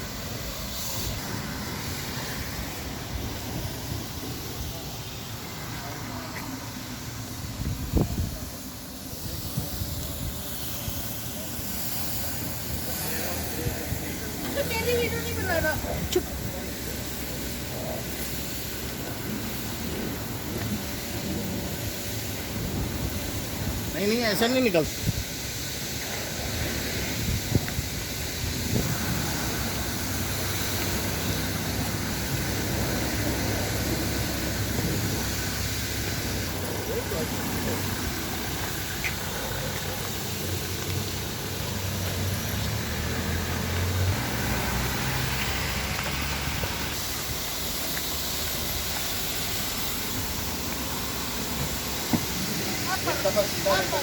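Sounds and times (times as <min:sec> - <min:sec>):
spray wand hissing: 0:00.0 - 0:54.0.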